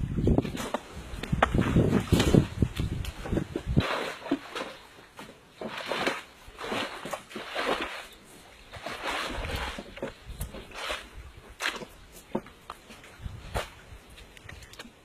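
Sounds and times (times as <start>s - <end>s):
river water sloshing and splashing: 1.4s - 15.0s.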